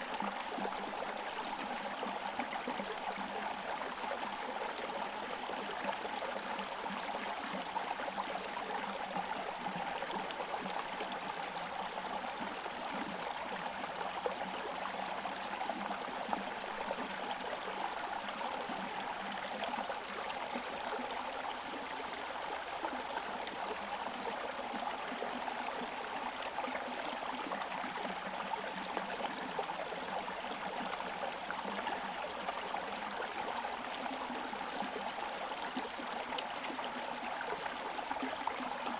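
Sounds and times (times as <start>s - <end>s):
stream gurgling over stones: 0.0s - 38.9s.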